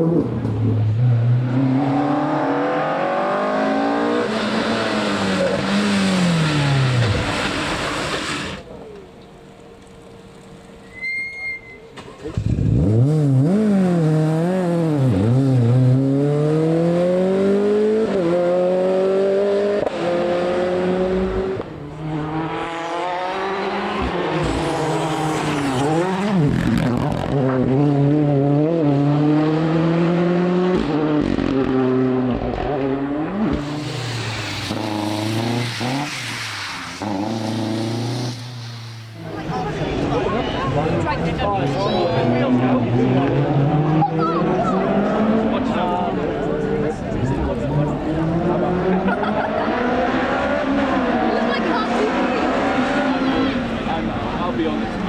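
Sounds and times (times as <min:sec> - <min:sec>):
rally car engine revving: 0:00.0 - 0:08.7, 0:12.1 - 0:55.0.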